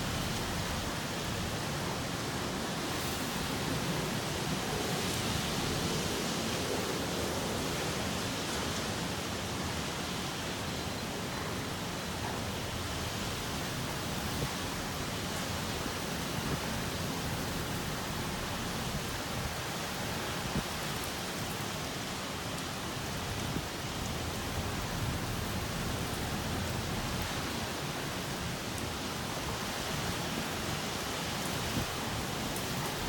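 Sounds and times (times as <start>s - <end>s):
heavy rain: 0.0s - 33.0s
strong wind: 0.0s - 33.0s.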